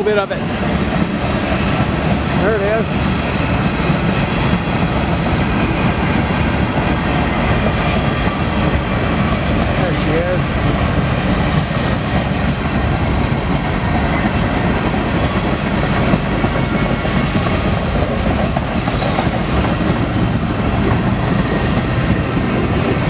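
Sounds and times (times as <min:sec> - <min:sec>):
freight train rumble: 0:00.0 - 0:23.0
steel wheels clattering on rail joints: 0:00.0 - 0:23.0.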